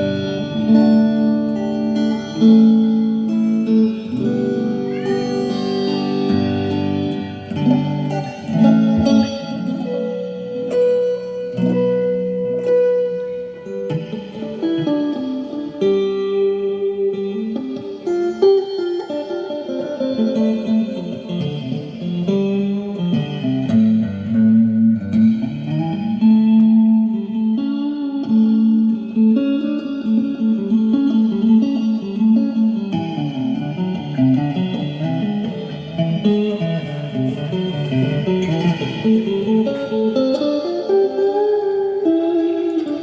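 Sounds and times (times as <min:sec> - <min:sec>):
solo guitar improvisation: 0:00.0 - 0:43.0.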